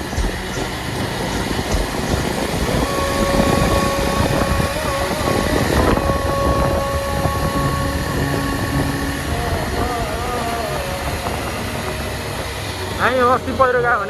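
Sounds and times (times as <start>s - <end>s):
motorcycle engine: 0.0s - 14.0s
wind rushing over microphone: 0.0s - 14.0s.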